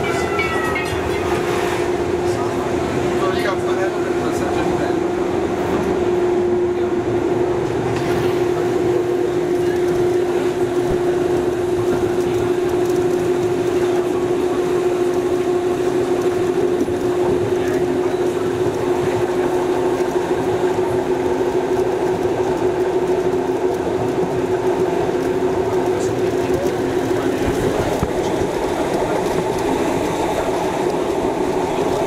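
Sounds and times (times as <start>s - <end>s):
train motor hum: 0.0s - 32.0s
wheels rumbling on track: 0.0s - 32.0s.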